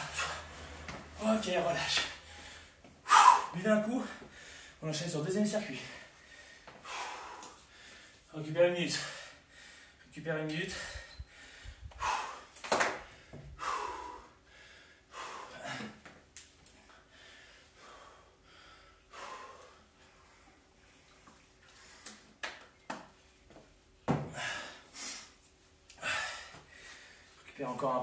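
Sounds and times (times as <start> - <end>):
man breathing hard: 0.0 - 1.0, 2.1 - 4.8, 5.7 - 8.3, 8.9 - 22.4, 24.3 - 27.4.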